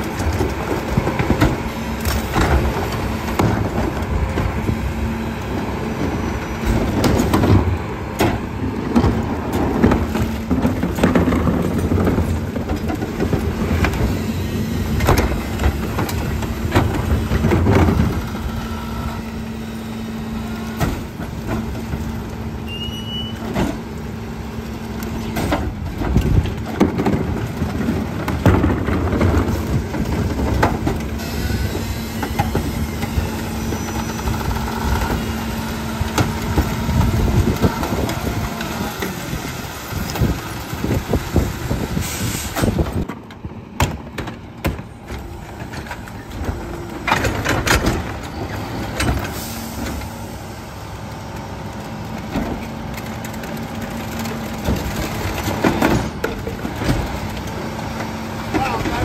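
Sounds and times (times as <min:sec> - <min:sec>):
carts banging and clattering: 0:00.0 - 0:19.4, 0:20.4 - 0:50.3, 0:52.0 - 0:59.0
garbage truck engine and hydraulics: 0:00.0 - 0:59.0.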